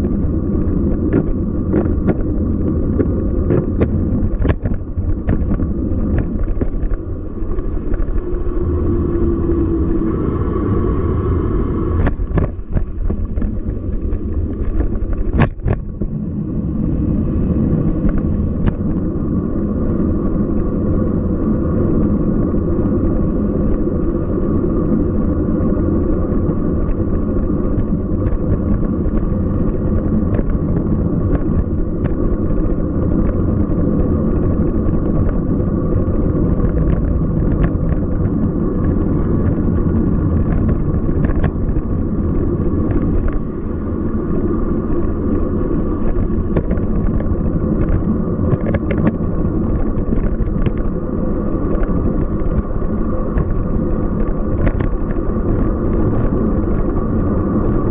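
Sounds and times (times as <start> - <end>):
bicycle rolling rumble: 0.0 - 57.9
bike rattles and clicks: 0.0 - 57.9.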